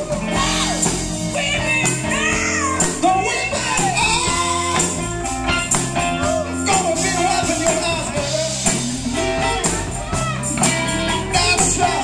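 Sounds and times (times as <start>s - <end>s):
drum kit beat: 0.0s - 12.0s
electric guitar: 0.0s - 12.0s
person singing: 0.0s - 12.0s.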